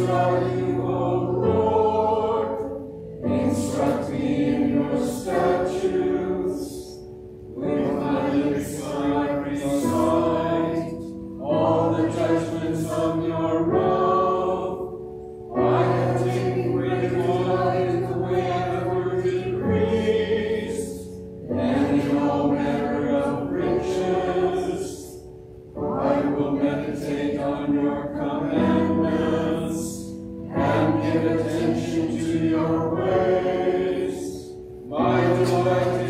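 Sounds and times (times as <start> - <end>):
choir chanting: 0.0 - 36.0.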